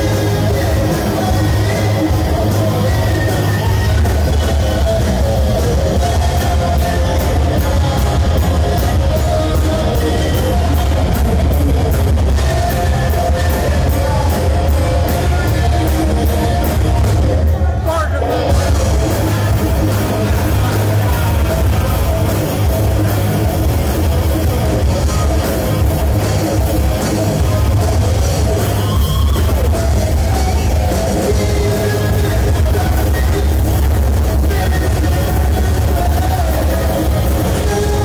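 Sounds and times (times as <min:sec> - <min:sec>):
distorted electric guitar: 0:00.0 - 0:38.0
drum kit: 0:00.0 - 0:38.0
electric bass: 0:00.0 - 0:38.0
man singing: 0:00.0 - 0:38.0.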